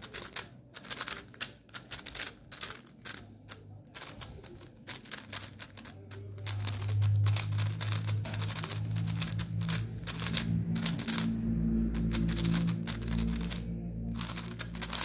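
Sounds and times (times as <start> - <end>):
low steady hum: 0.0 - 15.0
plastic puzzle cube clicking: 0.0 - 15.0.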